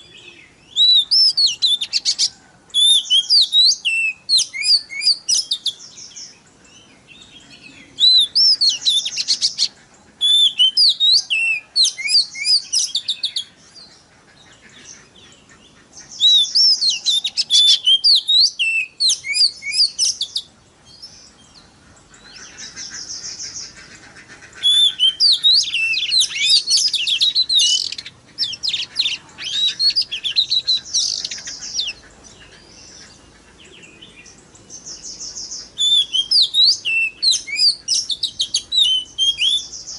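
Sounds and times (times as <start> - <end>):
bird singing whistles and trills: 0.0 - 14.0, 16.0 - 23.8, 24.6 - 39.9.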